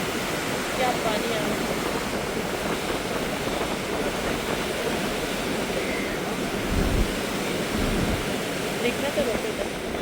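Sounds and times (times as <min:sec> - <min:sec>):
rushing flowing water: 0:00.0 - 0:10.0.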